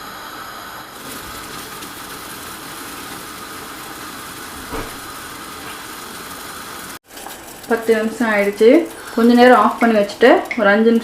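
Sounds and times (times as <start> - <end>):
pot boiling on stove: 0.0 - 11.0.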